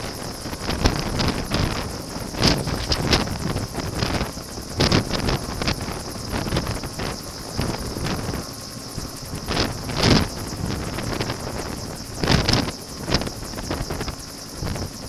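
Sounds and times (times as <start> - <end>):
helicopter rotor hovering: 0.0 - 15.0
wind buffeting microphone: 0.0 - 15.0.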